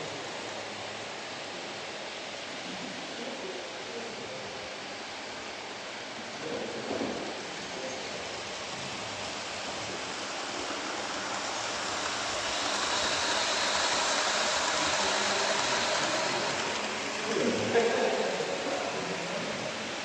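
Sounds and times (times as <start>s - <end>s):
model train rushing: 0.0s - 20.0s.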